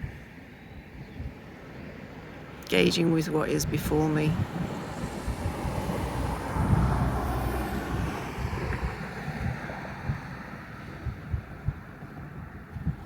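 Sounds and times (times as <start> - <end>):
wind rumbling on microphone: 0.0 - 13.0
distant road traffic: 1.4 - 13.0
water waves: 1.4 - 13.0.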